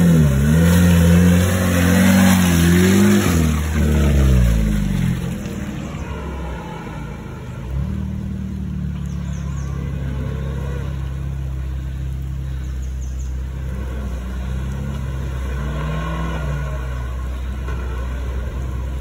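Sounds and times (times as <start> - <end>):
car engine running under throttle: 0.0 - 19.0.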